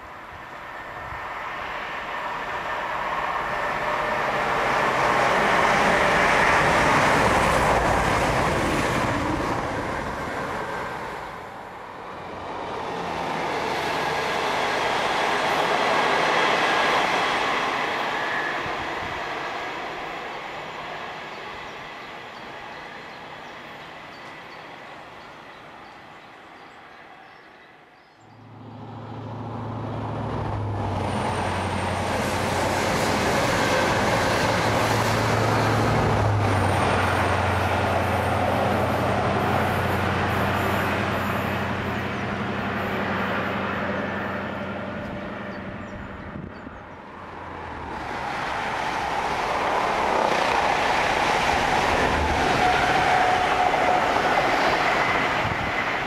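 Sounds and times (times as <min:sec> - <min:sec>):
diesel train passing: 0:00.0 - 0:56.0
second train engine hum: 0:00.0 - 0:56.0.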